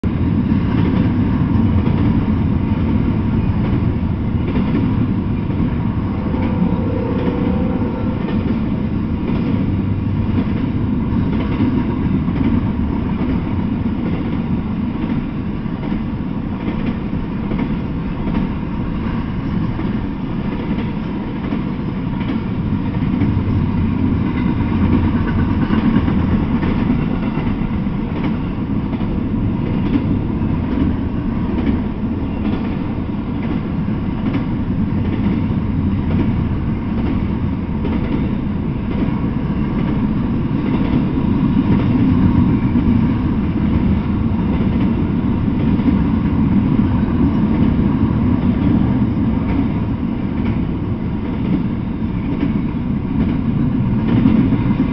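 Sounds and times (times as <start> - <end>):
freight train wheels rumbling on rails: 0.0 - 54.9.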